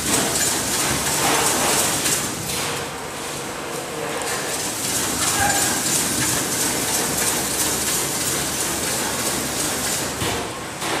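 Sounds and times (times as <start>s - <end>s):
packing machine running: 0.0s - 11.0s.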